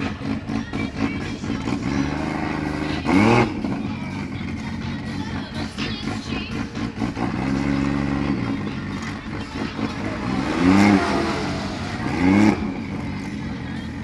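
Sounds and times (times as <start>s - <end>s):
engine rev blip: 0.0s - 13.5s
car engine at low revs: 0.0s - 14.0s.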